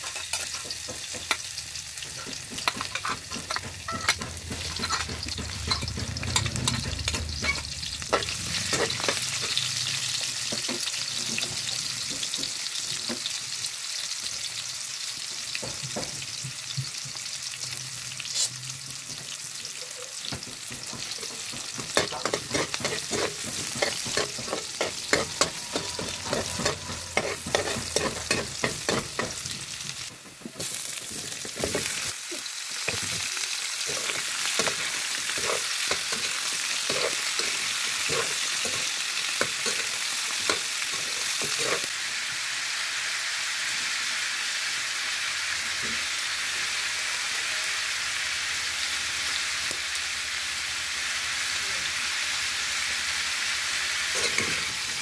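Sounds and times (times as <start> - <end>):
onion sizzling in hot oil: 0.0 - 55.0.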